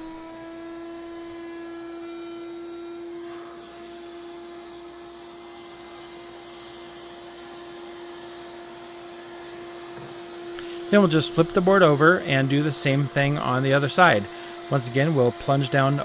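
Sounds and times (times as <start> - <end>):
router high whine: 0.0 - 16.0.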